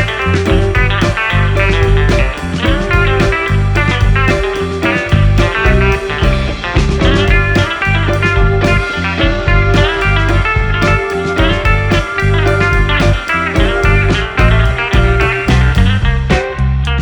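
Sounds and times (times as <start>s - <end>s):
blues-rock music with guitar: 0.0s - 17.0s.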